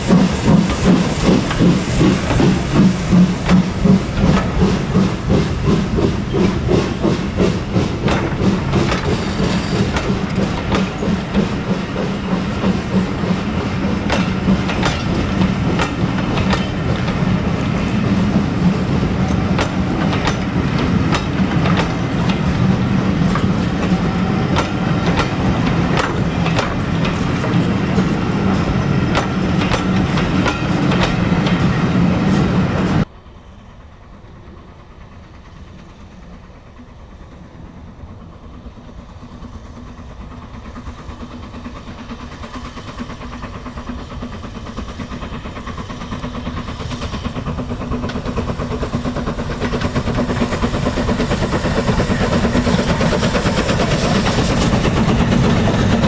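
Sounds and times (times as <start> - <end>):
steam locomotive exhaust beats: 0.0 - 56.0
wheels clicking over rail joints: 0.1 - 31.7, 39.2 - 56.0.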